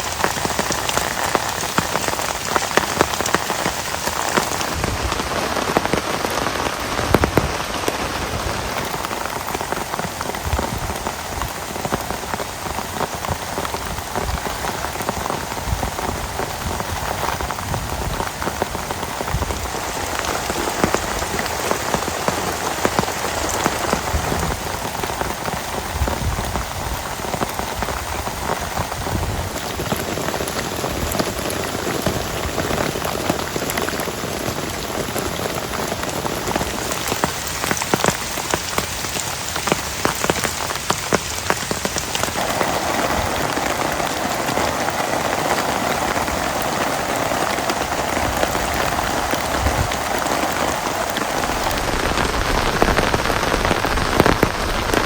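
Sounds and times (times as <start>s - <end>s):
heavy rain falling: 0.0s - 55.0s
raindrops ticking close by: 0.0s - 55.0s.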